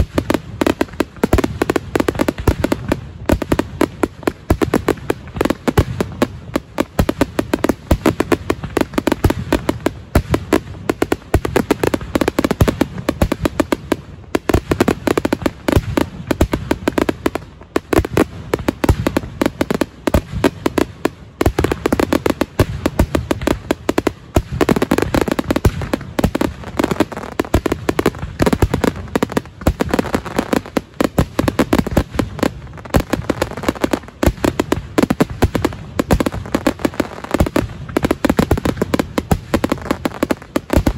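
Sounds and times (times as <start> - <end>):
rapid firework bangs: 0.0 - 40.9.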